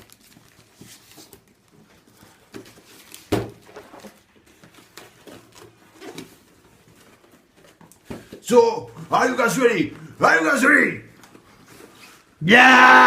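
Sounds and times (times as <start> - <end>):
cardboard parcel being handled: 0.0 - 10.0, 11.1 - 12.4.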